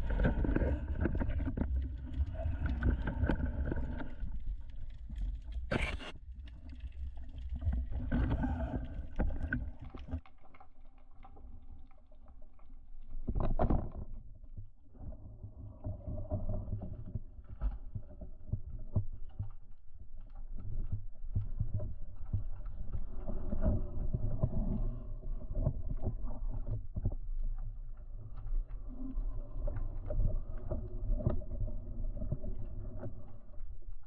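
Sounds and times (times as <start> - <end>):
small knocks underwater: 0.0 - 5.7, 6.3 - 34.0
underwater low rumble: 0.0 - 34.0.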